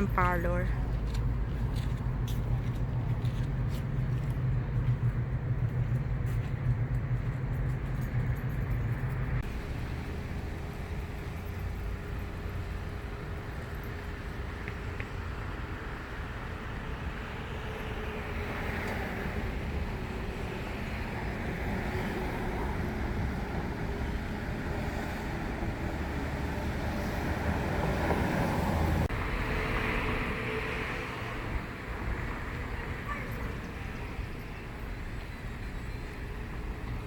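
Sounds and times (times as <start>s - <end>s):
rumble of passing cars: 0.0s - 37.0s.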